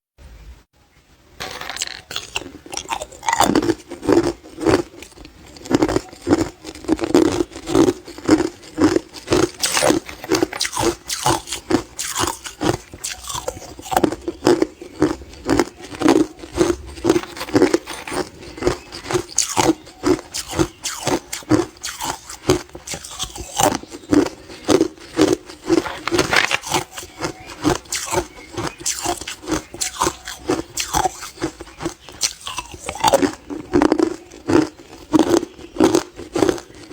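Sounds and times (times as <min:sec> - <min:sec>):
ice being chewed: 0:01.7 - 0:36.9.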